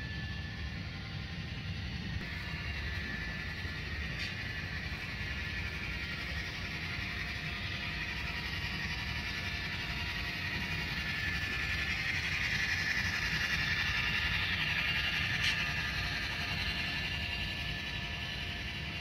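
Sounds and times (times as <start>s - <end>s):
model train whirring on rails: 0.0s - 19.0s.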